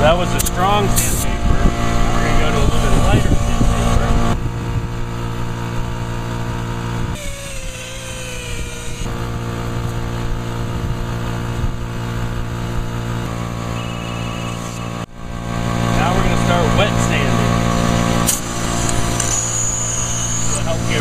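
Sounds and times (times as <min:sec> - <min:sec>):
power sander humming: 0:00.0 - 0:21.0.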